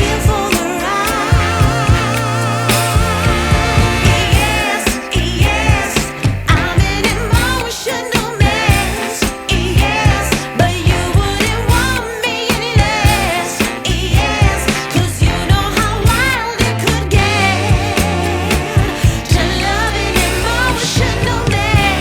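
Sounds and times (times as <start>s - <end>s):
song with vocals over a beat: 0.0s - 22.0s.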